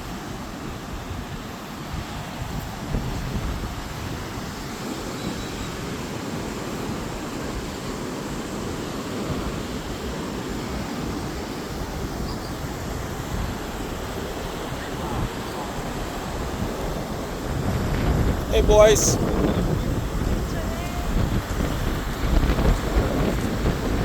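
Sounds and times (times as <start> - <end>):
sea surf washing onto beach: 0.0 - 24.0
wind rumbling on microphone: 0.0 - 24.0.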